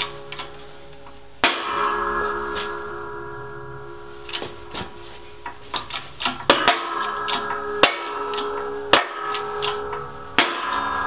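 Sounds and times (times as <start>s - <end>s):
sharp metal clanks: 0.0s - 11.0s.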